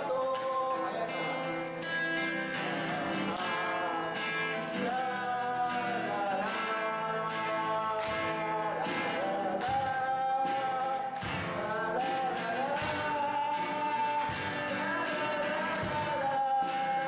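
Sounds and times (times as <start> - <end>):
acoustic guitar strumming: 0.0 - 17.0
person singing long notes: 0.0 - 17.0.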